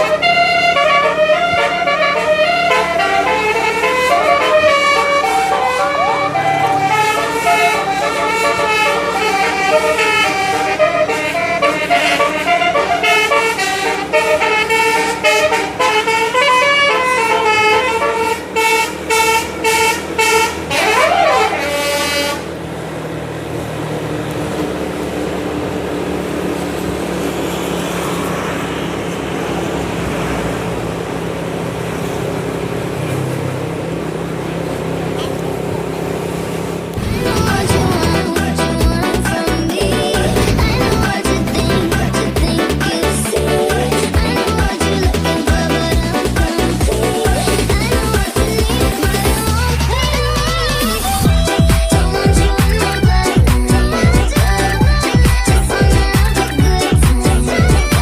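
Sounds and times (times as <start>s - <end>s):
bus horn playing melody: 0.0s - 58.0s
vehicle running noise: 0.0s - 58.0s.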